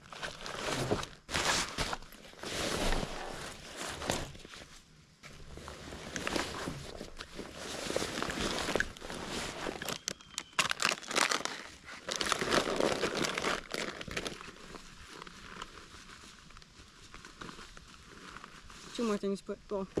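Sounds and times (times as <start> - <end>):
nylon bags crinkling and rustling: 0.0 - 20.0.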